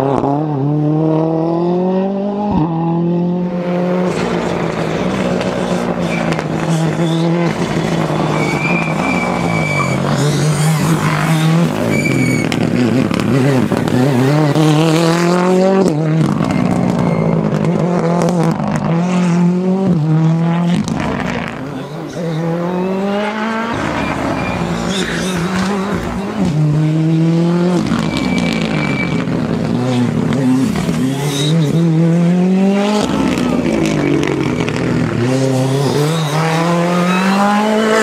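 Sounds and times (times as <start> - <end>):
rally car engine at full throttle: 0.0 - 38.0.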